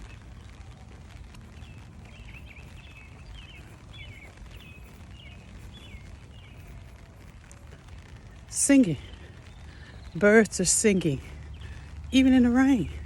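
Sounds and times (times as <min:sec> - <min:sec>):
rain falling: 0:00.0 - 0:13.0
songbirds chirping: 0:00.0 - 0:13.0.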